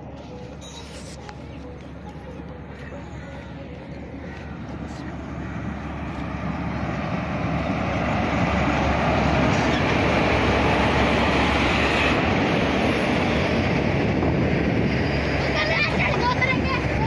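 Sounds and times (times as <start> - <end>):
passenger train passing: 0.0 - 17.0.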